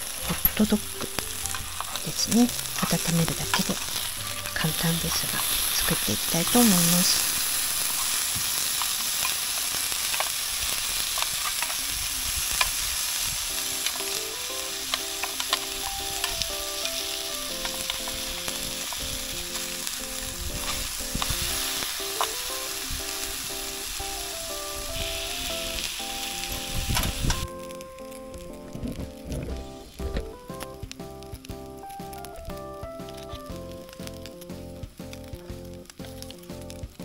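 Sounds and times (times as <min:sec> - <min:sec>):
meat sizzling in a frying pan: 0:00.0 - 0:37.0
soft melodic background music: 0:00.0 - 0:37.0.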